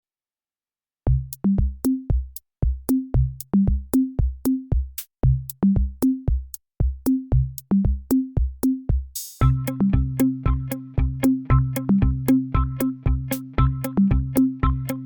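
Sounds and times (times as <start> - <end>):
electronic music with drum-machine beat: 1.1 - 15.0.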